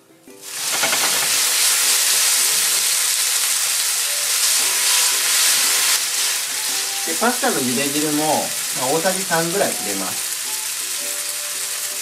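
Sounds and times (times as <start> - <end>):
pasta sizzling in hot oil: 0.4 - 12.0.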